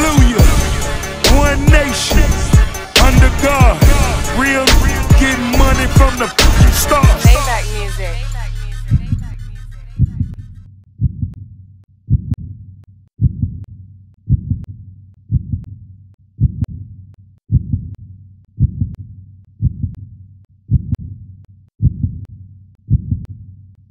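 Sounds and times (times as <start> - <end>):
heartbeat thumps: 0.2 - 11.4, 12.1 - 15.8, 16.4 - 18.0, 18.6 - 20.0, 20.7 - 21.2, 21.8 - 22.3, 22.9 - 23.3.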